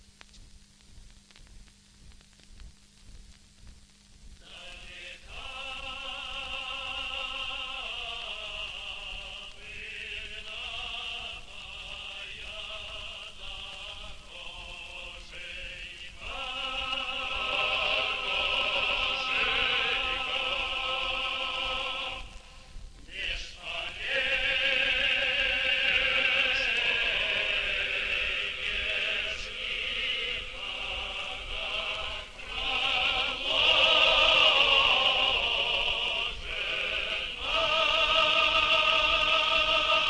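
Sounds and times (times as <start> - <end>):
operatic singing with vibrato: 4.4 - 40.0.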